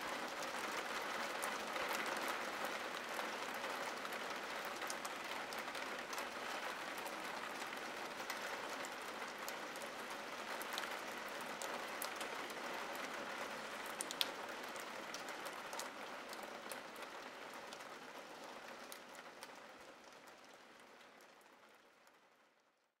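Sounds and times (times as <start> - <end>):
rain on window glass: 0.0 - 22.7
sharp ticks of raindrops: 0.0 - 22.7.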